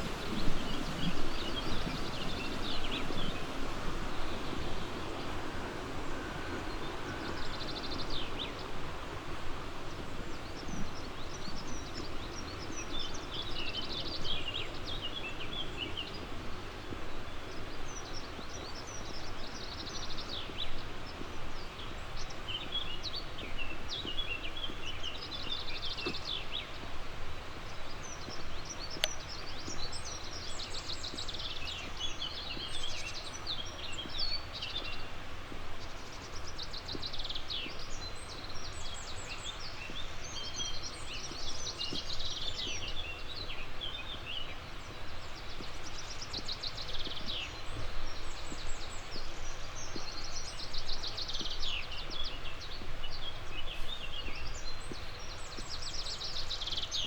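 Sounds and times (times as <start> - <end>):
outdoor background rush: 0.0 - 57.0.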